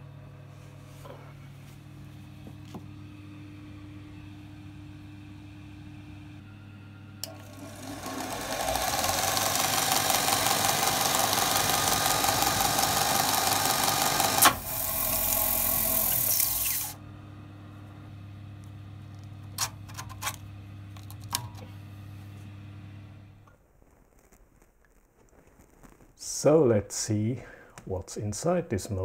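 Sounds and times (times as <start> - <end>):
low motor hum: 0.0 - 23.5.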